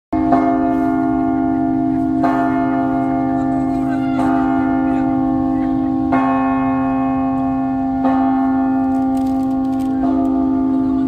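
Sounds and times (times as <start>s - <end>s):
church bell tolling: 0.1s - 11.0s.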